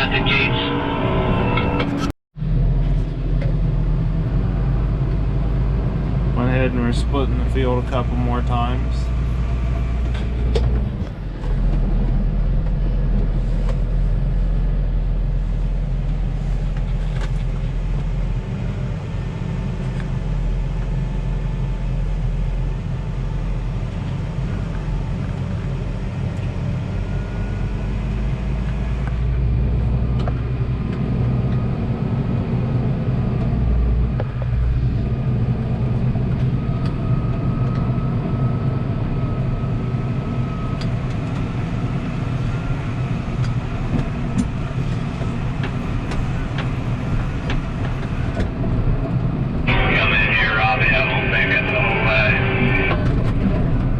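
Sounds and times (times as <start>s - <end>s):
tractor diesel engine droning: 0.0s - 53.9s.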